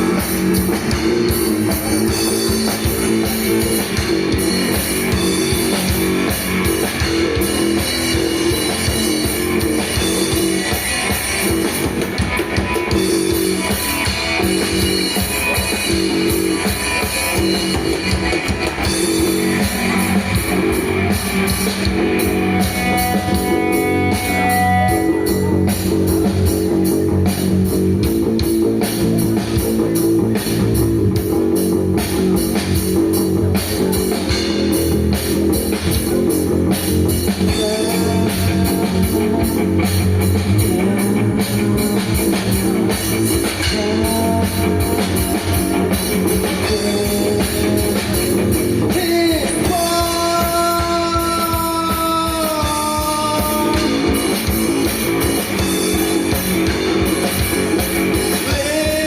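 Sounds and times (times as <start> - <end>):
bass guitar: 0.0 - 59.0
distorted electric guitars: 0.0 - 59.0
drum kit: 0.0 - 59.0.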